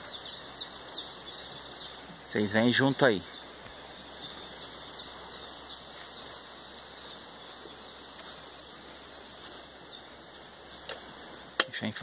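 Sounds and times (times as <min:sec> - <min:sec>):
birds calling: 0:00.0 - 0:12.0
steady outdoor hiss: 0:00.0 - 0:12.0.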